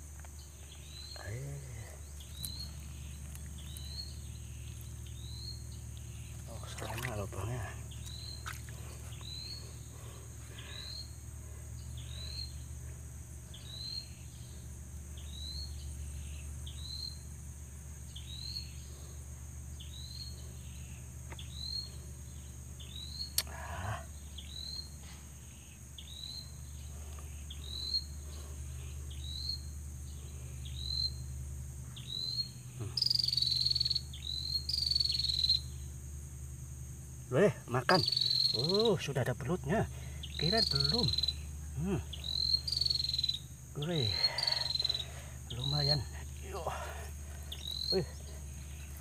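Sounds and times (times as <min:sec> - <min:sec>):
shrill insect buzz: 0:00.0 - 0:49.0
steady low hum: 0:00.0 - 0:49.0.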